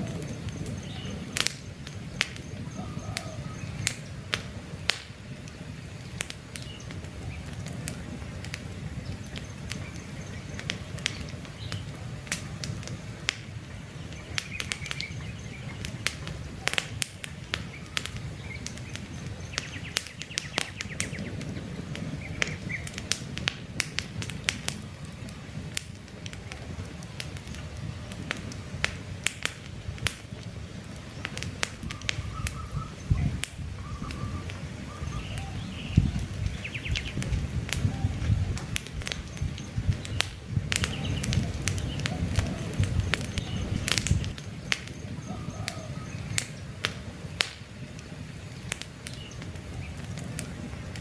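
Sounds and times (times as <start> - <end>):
birds chirping: 0.0 - 23.2, 29.8 - 51.0
campfire crackling: 0.0 - 51.0.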